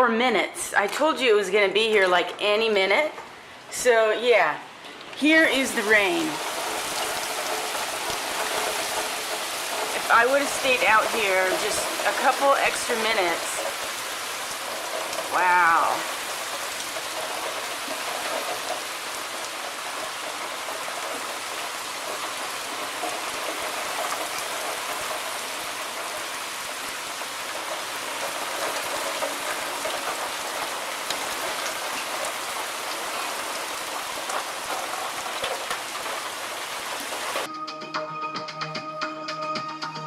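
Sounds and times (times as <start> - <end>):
rain falling: 0.0 - 37.5
raindrops ticking: 0.7 - 37.5.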